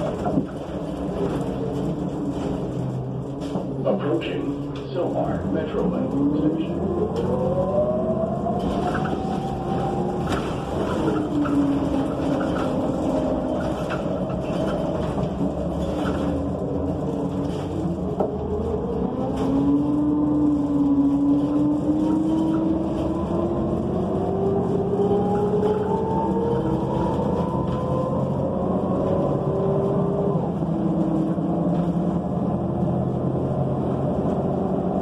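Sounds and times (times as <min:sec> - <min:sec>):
bus engine and transmission whine: 0:00.0 - 0:35.0.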